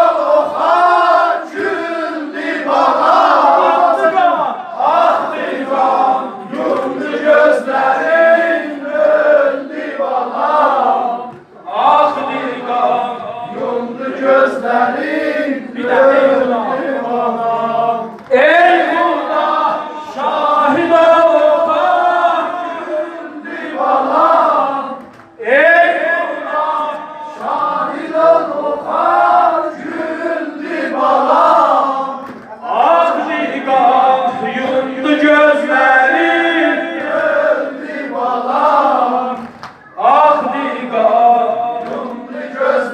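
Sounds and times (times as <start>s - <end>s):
group of men chanting: 0.0s - 39.4s, 40.0s - 42.9s.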